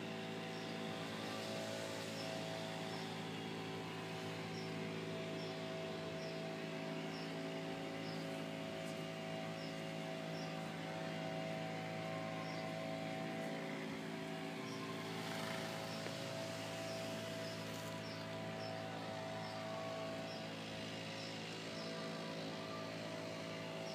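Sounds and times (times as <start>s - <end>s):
pressure washer running: 0.0s - 23.9s.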